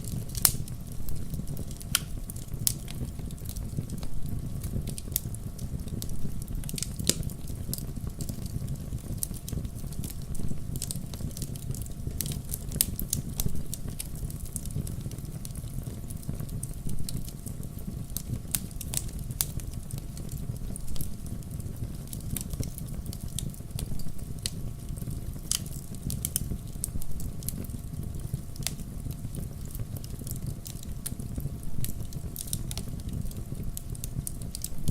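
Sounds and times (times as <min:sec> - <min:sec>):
fireplace crackling: 0:00.0 - 0:34.9.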